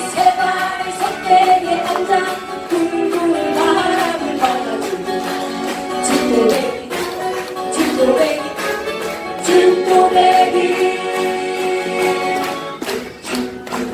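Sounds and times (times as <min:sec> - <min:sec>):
acoustic guitars strumming: 0:00.0 - 0:13.9
group of voices singing: 0:00.0 - 0:13.9.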